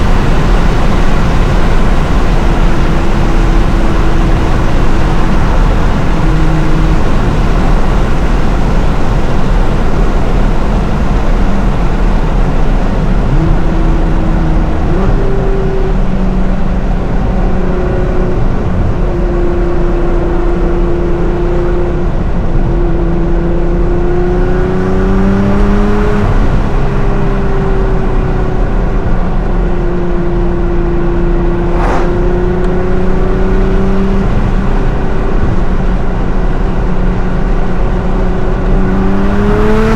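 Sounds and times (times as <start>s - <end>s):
exhaust rumble: 0.0s - 19.2s, 24.6s - 39.9s
car engine cruising: 0.0s - 39.9s
road noise: 0.0s - 39.9s.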